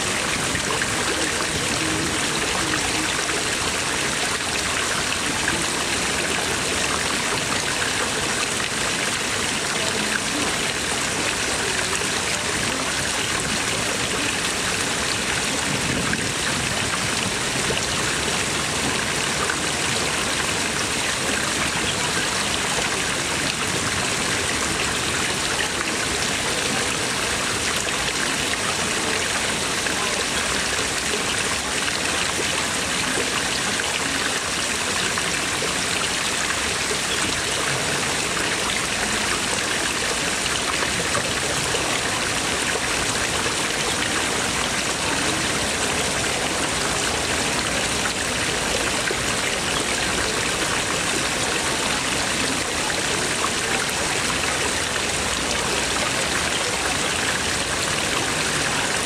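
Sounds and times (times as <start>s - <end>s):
water jets splashing into pond: 0.0s - 59.0s.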